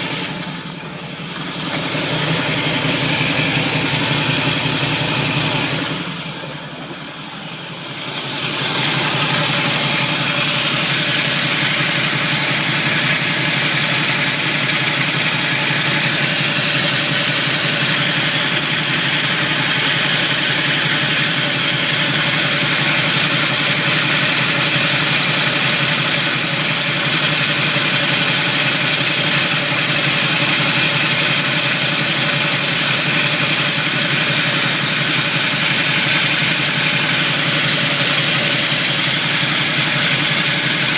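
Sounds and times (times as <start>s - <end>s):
car engine running: 0.0s - 40.9s
harsh mechanical grinding: 0.0s - 40.9s.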